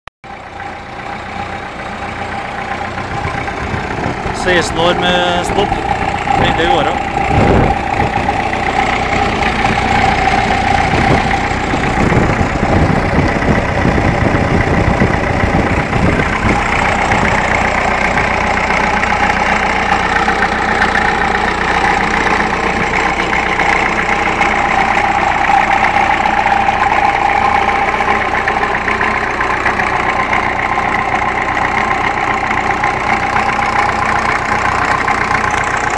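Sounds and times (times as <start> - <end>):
tractor diesel engine idling: 0.2 - 35.9.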